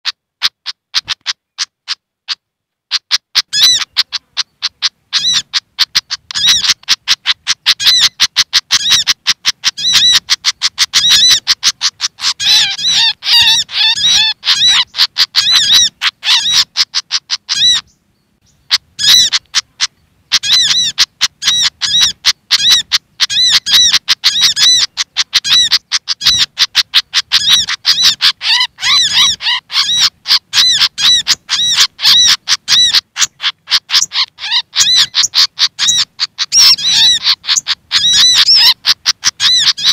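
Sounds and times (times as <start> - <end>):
birds chirping sharply: 2.9 - 39.9.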